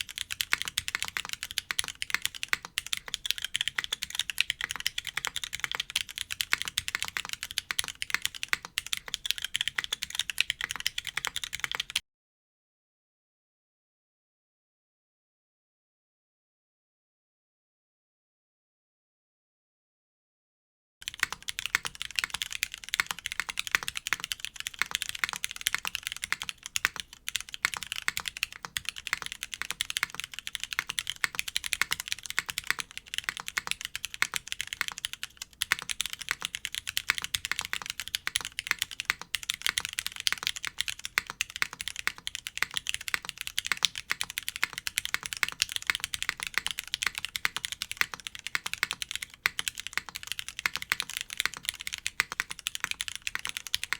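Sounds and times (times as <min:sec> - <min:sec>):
mechanical keyboard typing: 0:00.0 - 0:12.0, 0:21.0 - 0:53.9.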